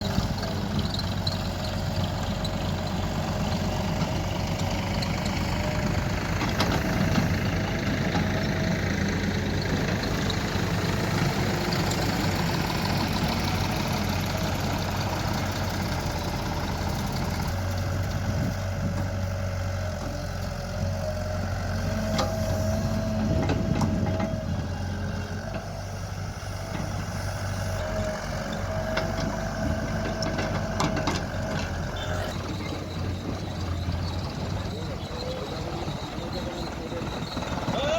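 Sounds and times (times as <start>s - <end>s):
diesel engines running: 0.0s - 37.9s.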